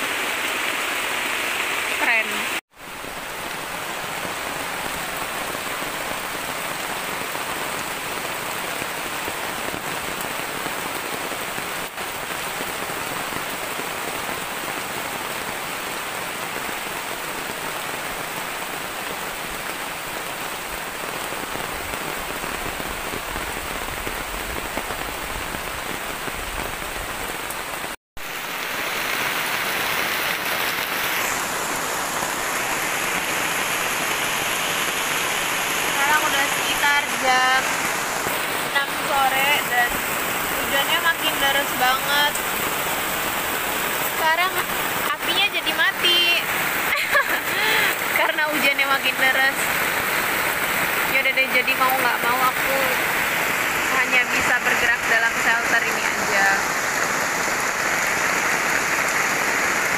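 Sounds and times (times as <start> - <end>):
heavy rain on a tarp: 0.0 - 59.9.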